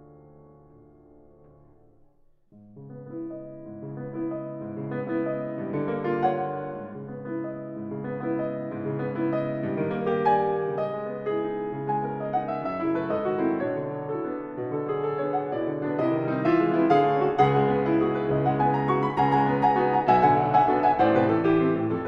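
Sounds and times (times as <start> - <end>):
solo grand piano playing: 0.0 - 22.0.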